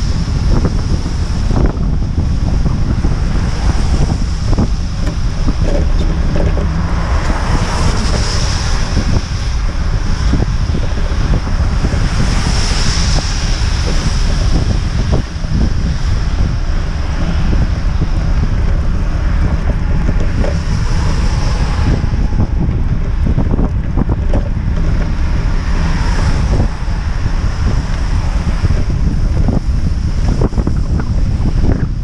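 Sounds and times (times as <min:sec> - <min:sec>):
wind buffeting microphone: 0:00.0 - 0:32.0
small knocks of bike rolling: 0:03.4 - 0:32.0.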